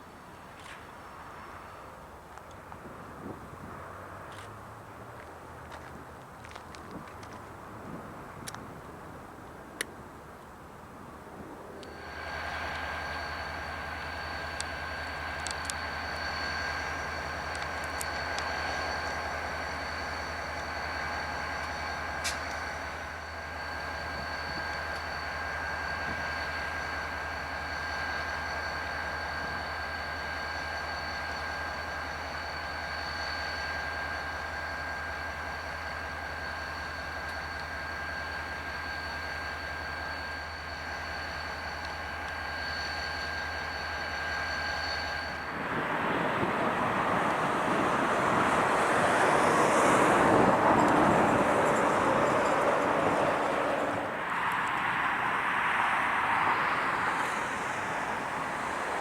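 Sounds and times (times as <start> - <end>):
constant high whine: 0.0 - 59.0
diesel locomotive running: 0.0 - 59.0.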